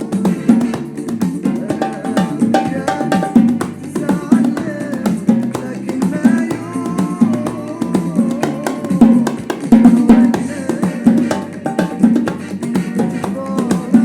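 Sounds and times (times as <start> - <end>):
percussion beat: 0.0 - 14.0.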